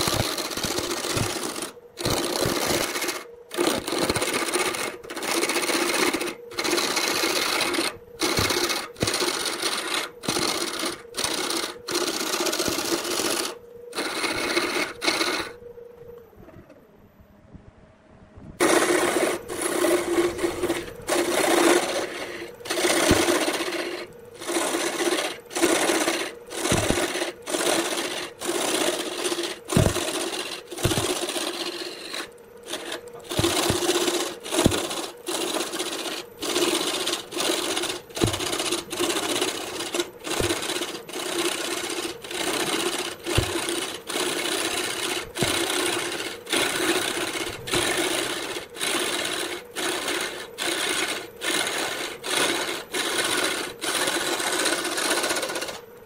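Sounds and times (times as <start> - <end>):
turning tool rasping wood: 0.0 - 15.6, 18.6 - 55.8
lathe motor hum: 0.0 - 16.8, 18.6 - 56.0.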